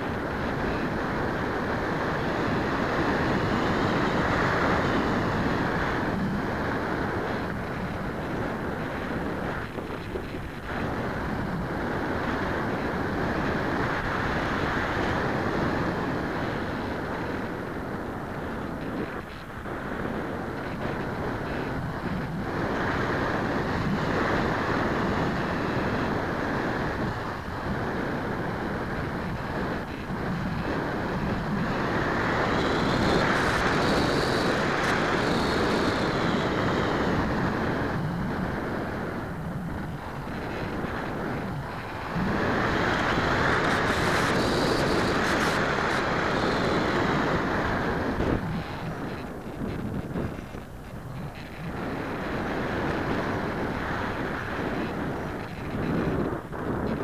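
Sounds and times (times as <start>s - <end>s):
faint motor whine: 0.0s - 57.0s
wind rushing over airframe: 0.0s - 57.0s.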